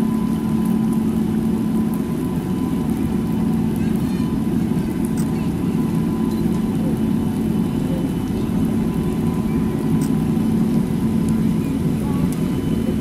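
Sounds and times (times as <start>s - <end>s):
train locomotive rumbling: 0.0s - 13.0s.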